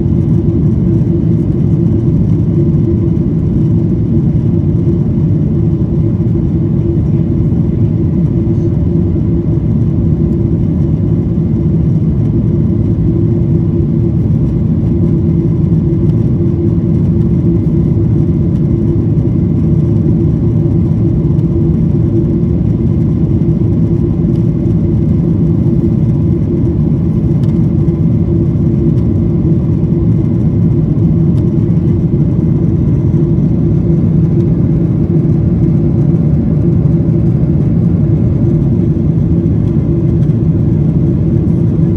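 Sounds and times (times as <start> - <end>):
airplane engine drone: 0.0 - 41.9.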